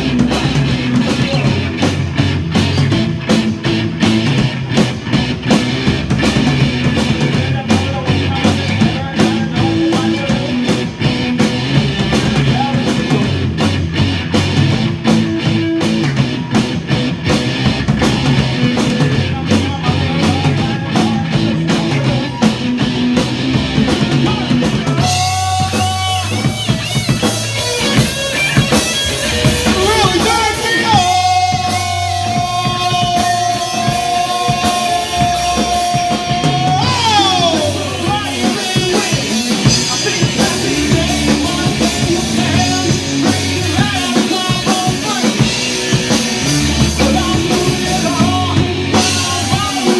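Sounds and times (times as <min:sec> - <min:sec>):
lead guitar line: 0:00.0 - 0:49.9
rock band playing: 0:00.0 - 0:49.9.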